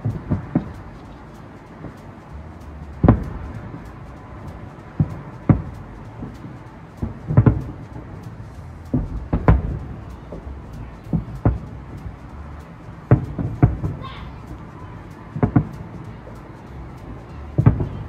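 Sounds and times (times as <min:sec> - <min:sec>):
fireworks booming: 0:00.0 - 0:01.0, 0:02.9 - 0:16.0, 0:17.1 - 0:18.0.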